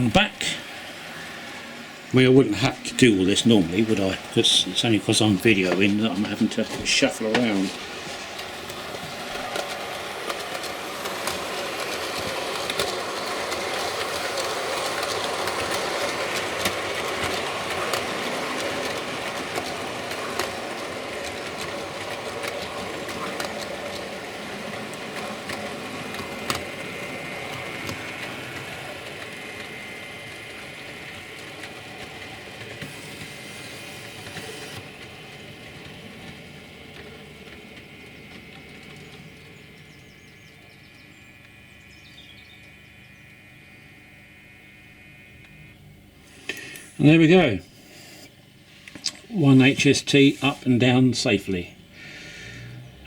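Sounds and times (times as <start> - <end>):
model train motor whir: 0.0 - 53.0
wheel noise on rails: 0.0 - 53.0.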